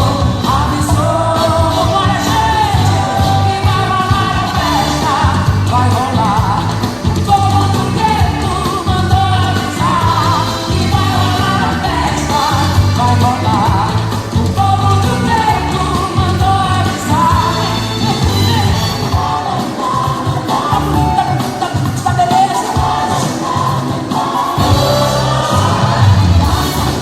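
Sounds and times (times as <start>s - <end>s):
pop song with singer: 0.0s - 27.0s.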